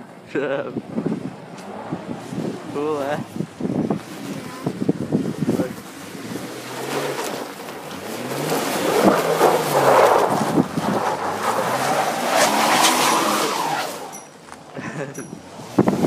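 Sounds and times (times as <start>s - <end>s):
broad rushing noise: 0.9s - 16.0s
car engine revving: 1.2s - 14.4s.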